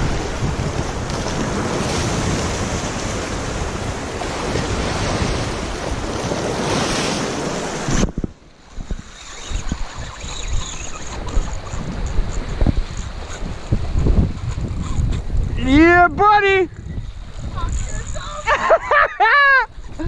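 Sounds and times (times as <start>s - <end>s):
waves washing on shore: 0.0s - 18.8s
wind on microphone: 0.0s - 18.9s, 19.5s - 20.0s.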